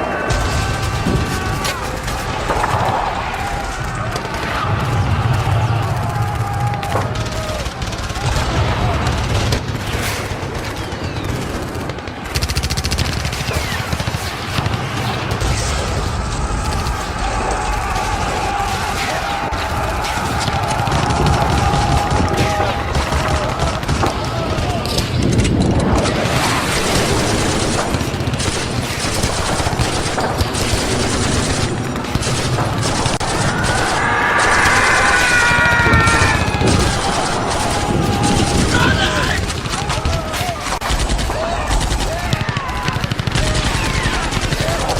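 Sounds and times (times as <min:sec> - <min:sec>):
machine-gun burst: 0:00.0 - 0:44.9
rifle shots: 0:00.0 - 0:44.9.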